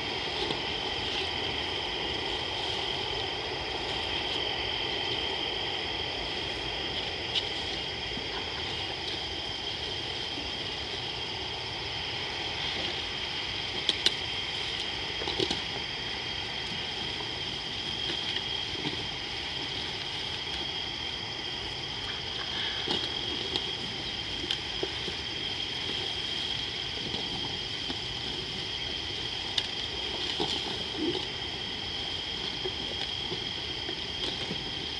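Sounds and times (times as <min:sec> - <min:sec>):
night insects chorus: 0:00.0 - 0:34.9.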